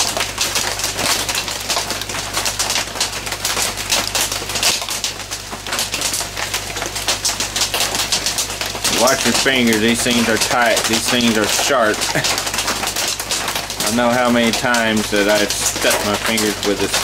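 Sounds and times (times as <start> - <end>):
hard rain on a tin roof: 0.0 - 17.0.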